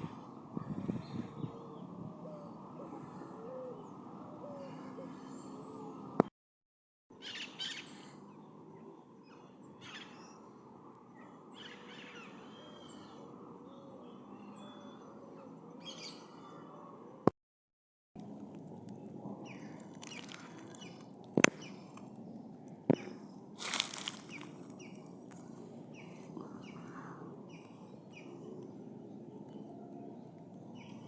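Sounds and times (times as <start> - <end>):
birds hooting softly: 0.0 - 6.3, 7.1 - 17.2, 18.6 - 31.0.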